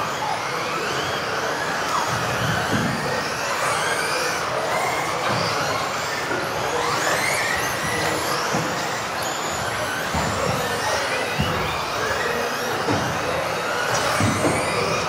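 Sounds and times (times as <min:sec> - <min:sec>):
electric toy car motors whining: 0:00.0 - 0:15.0
steady noisy background: 0:00.0 - 0:15.0.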